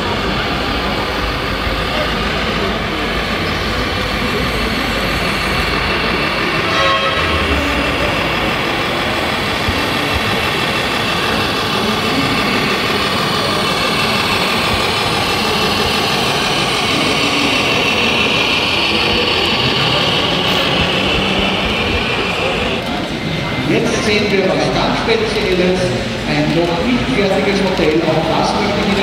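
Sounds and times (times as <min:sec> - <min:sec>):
diesel truck engine sound module: 0:00.0 - 0:29.0.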